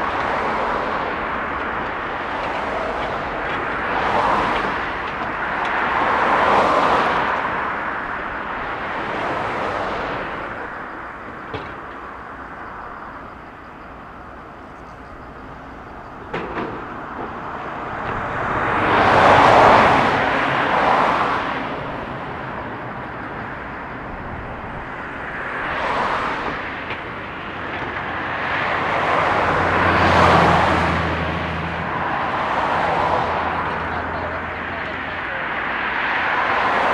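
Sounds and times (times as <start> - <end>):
road vehicles passing: 0.0 - 36.9.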